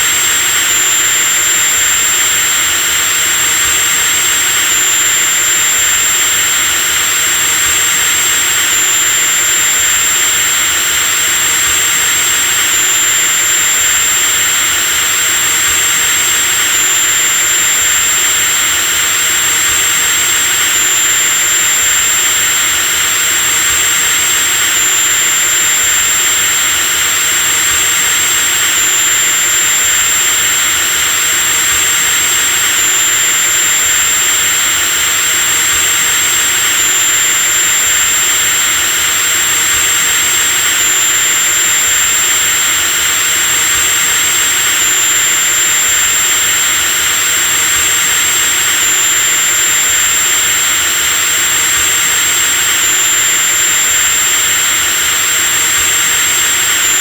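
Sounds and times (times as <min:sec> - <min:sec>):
electric drill motor whine: 0:00.0 - 0:57.0.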